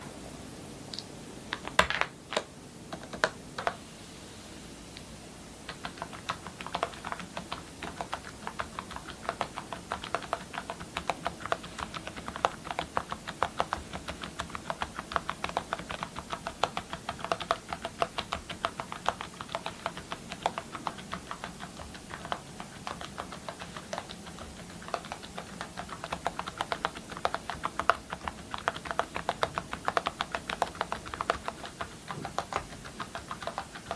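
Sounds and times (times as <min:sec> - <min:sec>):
mechanical keyboard typing: 0:01.5 - 0:03.8, 0:05.6 - 0:33.9.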